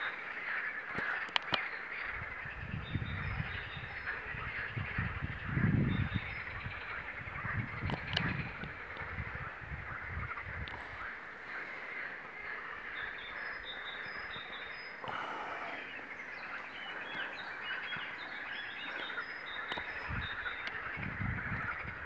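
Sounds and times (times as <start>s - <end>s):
dense bird chorus: 0.0s - 22.0s.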